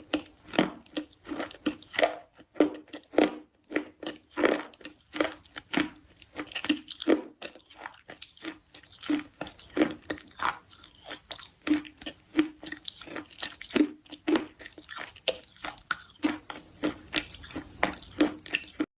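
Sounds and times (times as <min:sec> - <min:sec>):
crunchy chewing: 0:00.0 - 0:18.9.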